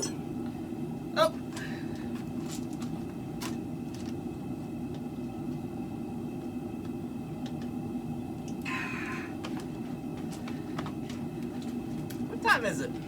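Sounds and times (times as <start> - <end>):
forge burner roaring: 0.0 - 13.0.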